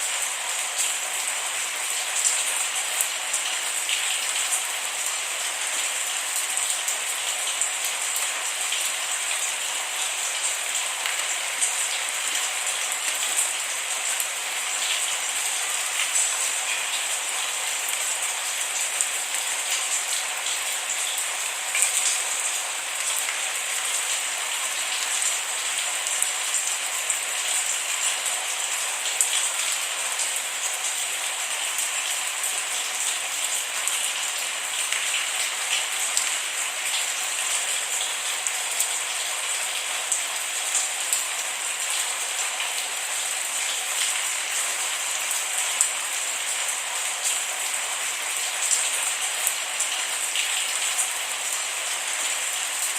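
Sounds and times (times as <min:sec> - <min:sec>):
rain drops pattering: 0:00.0 - 0:52.9.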